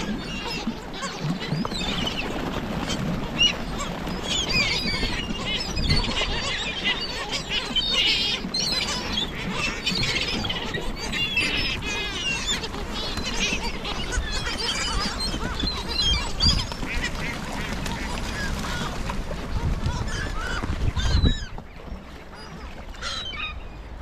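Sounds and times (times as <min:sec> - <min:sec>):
flock of gulls calling: 0:00.0 - 0:24.0.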